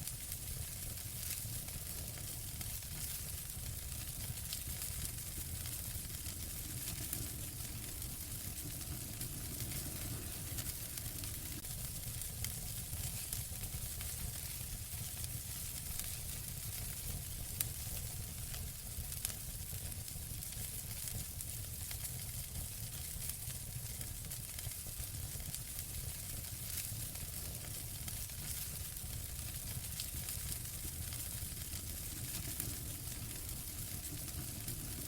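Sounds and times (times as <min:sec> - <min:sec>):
fire crackling in fireplace: 0:00.0 - 0:35.0.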